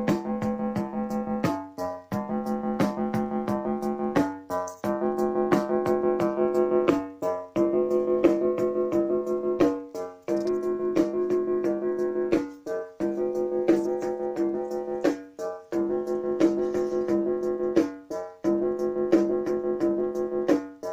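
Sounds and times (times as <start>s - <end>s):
keyboard playing held chords: 0.0s - 20.9s
keyboard rhythm clicks: 0.0s - 20.9s.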